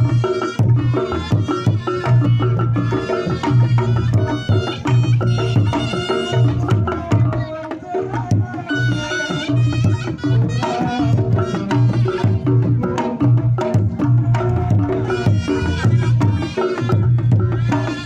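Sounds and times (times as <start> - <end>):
reedy wind instrument melody: 0.0 - 13.2, 14.2 - 18.0.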